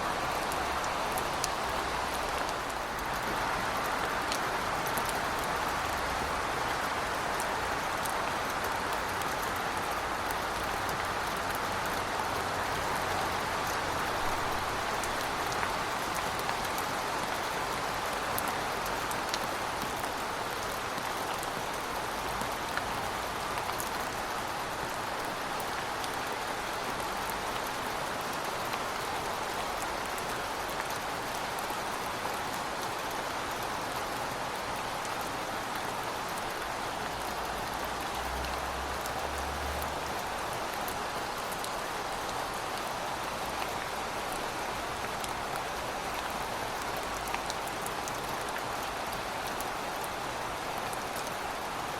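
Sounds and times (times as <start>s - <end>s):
heavy rain falling: 0.0s - 51.9s
raindrops ticking on hard surfaces: 0.1s - 51.9s.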